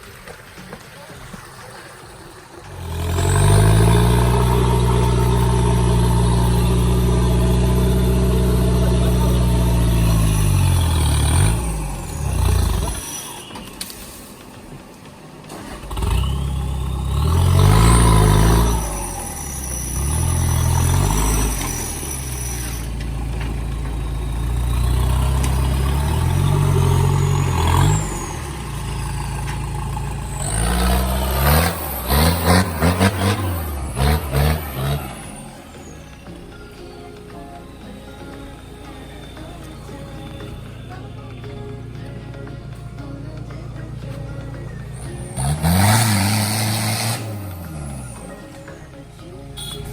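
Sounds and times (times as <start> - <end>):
vehicle engine revving hard: 2.6 - 13.7, 15.5 - 36.6, 38.2 - 48.5.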